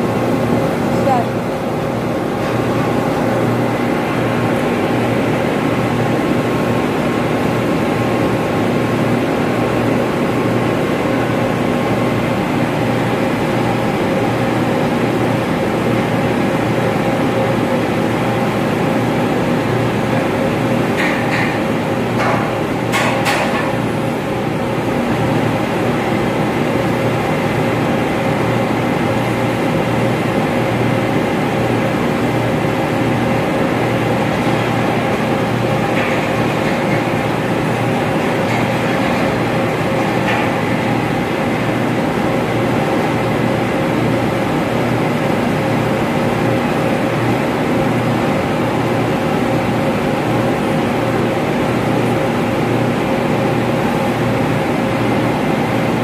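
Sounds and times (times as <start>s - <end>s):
ventilation machinery humming: 0.0s - 56.0s.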